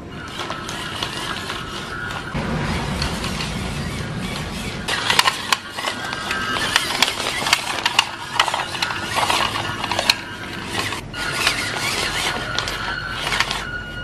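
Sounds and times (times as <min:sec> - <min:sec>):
electric motor and gearbox whining: 0:00.0 - 0:14.0.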